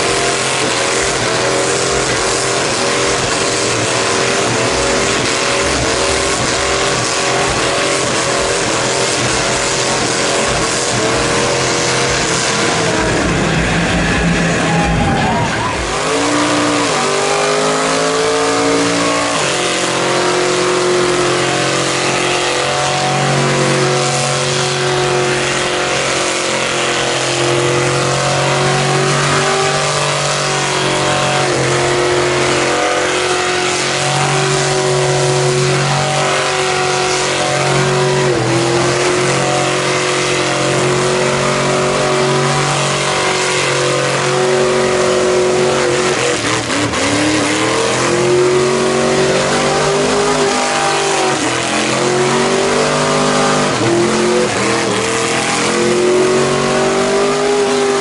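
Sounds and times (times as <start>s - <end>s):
tires spinning: 0.0s - 58.0s
truck engine at high revs: 0.0s - 58.0s.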